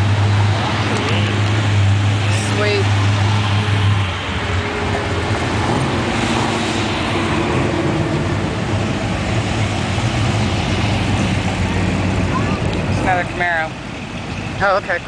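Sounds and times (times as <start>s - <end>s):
cars driving slowly past: 0.0s - 15.0s
low engine note: 0.0s - 15.0s
road noise: 0.0s - 15.0s.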